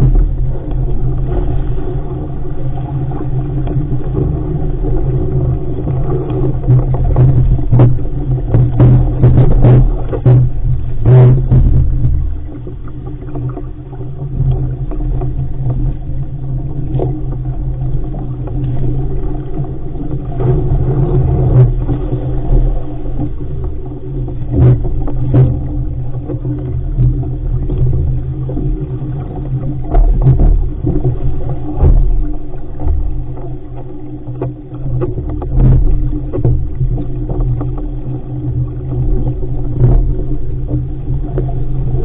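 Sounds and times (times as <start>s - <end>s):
wind and water rushing past hull: 0.0s - 42.0s.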